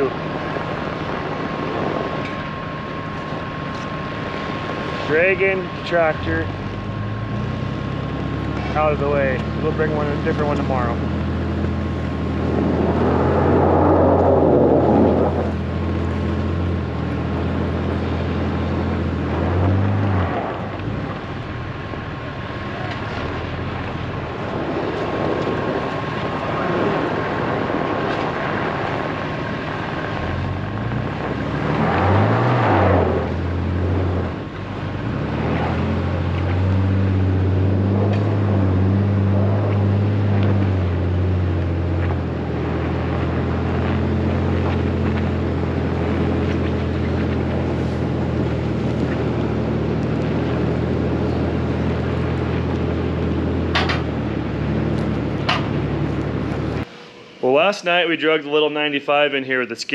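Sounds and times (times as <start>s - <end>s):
vehicle engine running: 0.0s - 58.0s
rushing noise: 0.0s - 59.0s.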